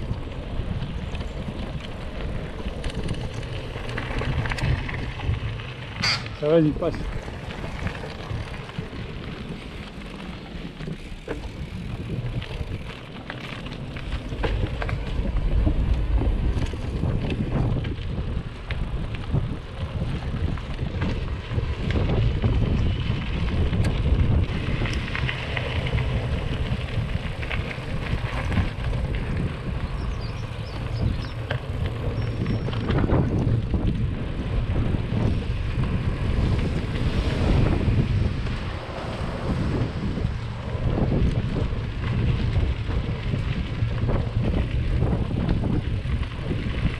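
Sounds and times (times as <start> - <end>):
bike rattling over bumps: 0.0 - 46.9
wind buffeting microphone: 0.0 - 46.9.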